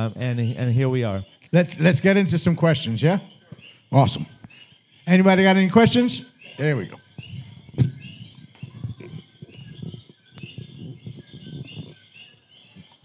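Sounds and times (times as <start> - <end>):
frogs chirping: 0.0 - 13.0.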